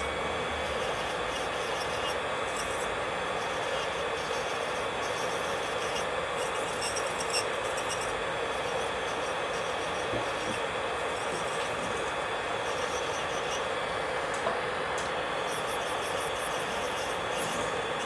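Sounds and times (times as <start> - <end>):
electric nail drill grinding: 0.0 - 18.0.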